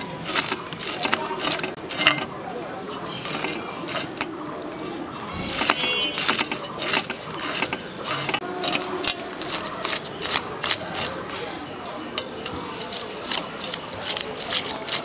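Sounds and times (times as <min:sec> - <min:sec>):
knife scraping fish scales: 0:00.0 - 0:11.4, 0:12.1 - 0:15.0.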